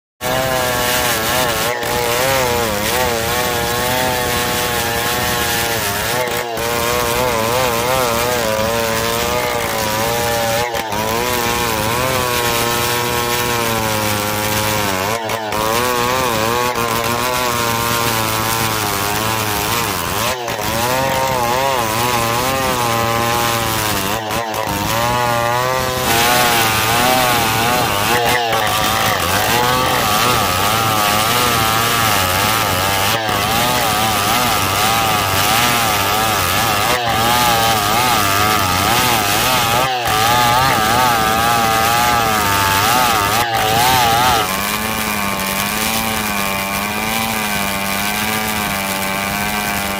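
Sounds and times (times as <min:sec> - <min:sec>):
chainsaw cutting log: 0:00.2 - 0:49.9.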